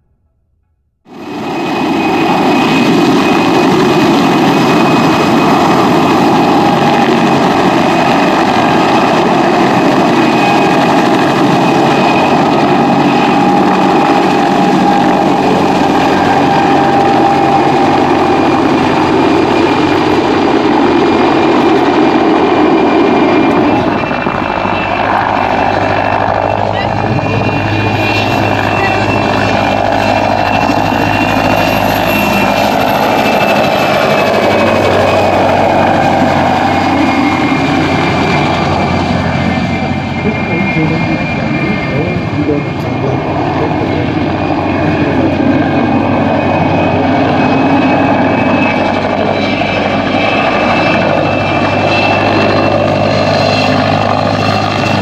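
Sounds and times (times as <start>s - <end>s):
helicopter engines and rotor: 1.1s - 55.0s
high turbine whine: 1.1s - 55.0s.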